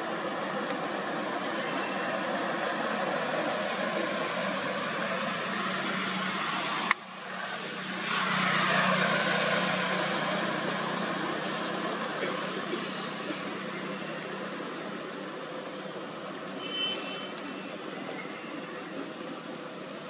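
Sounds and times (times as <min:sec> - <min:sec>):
rushing outdoor noise: 0:00.0 - 0:20.0.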